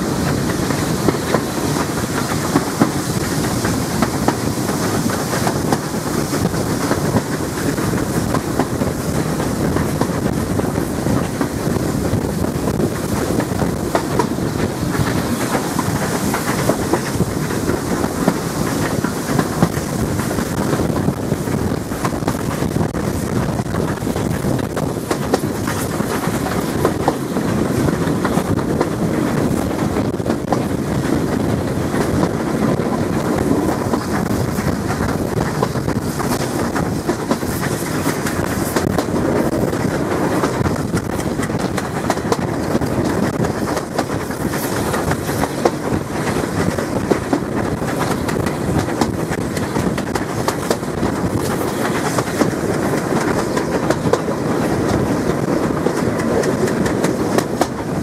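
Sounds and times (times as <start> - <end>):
train carriages rumbling: 0.0 - 58.0
wheels clicking over rail joints: 0.0 - 58.0.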